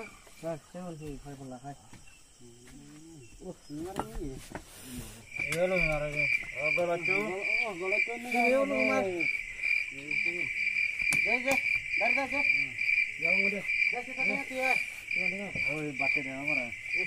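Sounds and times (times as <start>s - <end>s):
people talking: 0.0s - 4.5s, 5.4s - 9.3s, 11.2s - 17.0s
crickets chirping: 0.0s - 17.0s.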